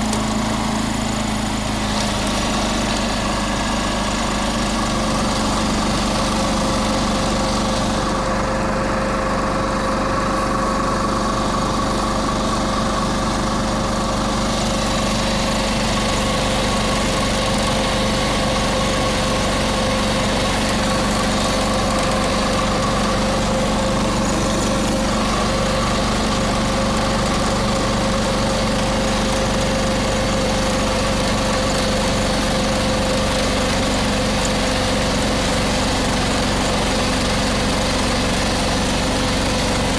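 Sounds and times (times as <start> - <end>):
garden tractor engine running: 0.0 - 39.9
snowblower throwing snow: 0.0 - 39.9.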